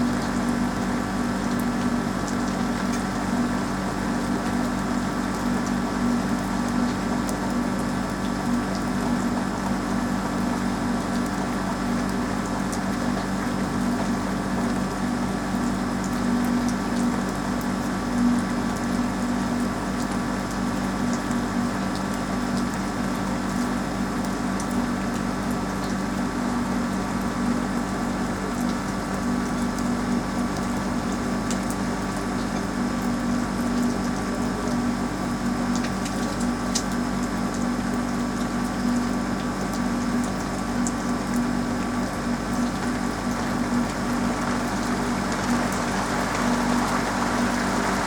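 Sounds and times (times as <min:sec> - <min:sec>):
low mechanical hum: 0:00.0 - 0:48.0
rain falling on a roof: 0:00.0 - 0:48.0.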